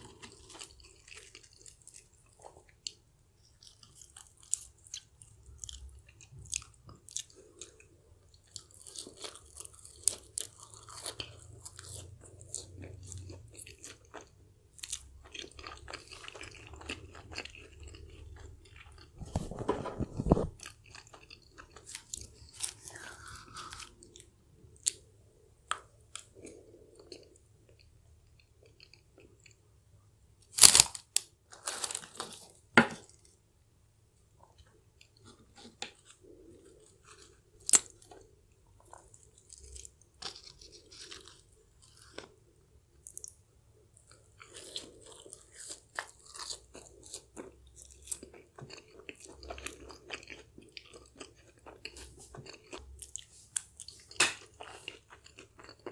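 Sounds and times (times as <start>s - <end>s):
chewing crunchy fried food: 0.0s - 29.8s, 34.4s - 55.9s.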